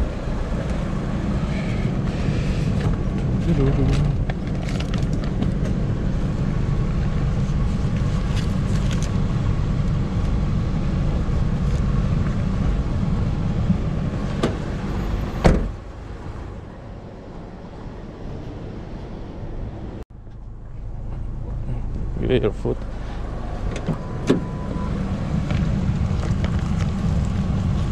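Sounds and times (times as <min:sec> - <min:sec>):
car road and engine rumble: 0:00.0 - 0:27.9.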